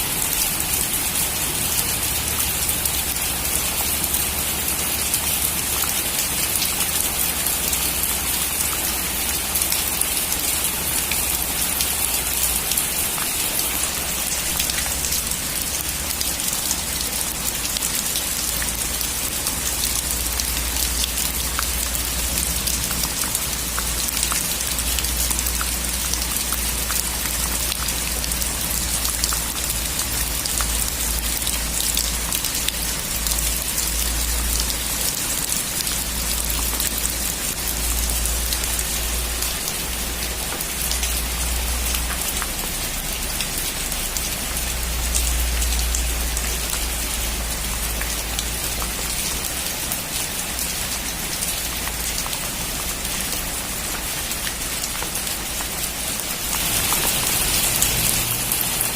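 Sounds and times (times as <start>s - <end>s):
heavy rain on a metal roof: 0.0s - 58.9s.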